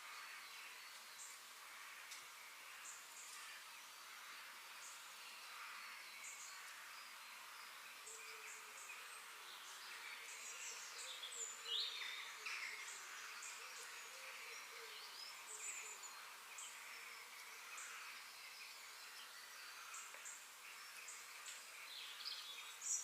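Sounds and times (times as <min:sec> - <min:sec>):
small birds chirping: 0:00.0 - 0:23.0
steady background hiss: 0:00.0 - 0:23.0.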